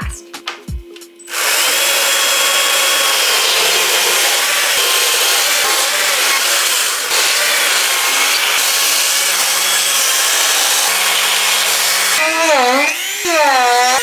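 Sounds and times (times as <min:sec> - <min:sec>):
small chainsaw cutting log: 0:01.3 - 0:14.0.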